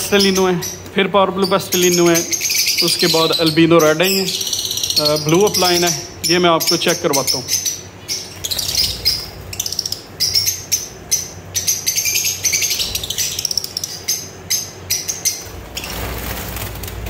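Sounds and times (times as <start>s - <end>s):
birds chirping rapidly: 0.0s - 17.0s.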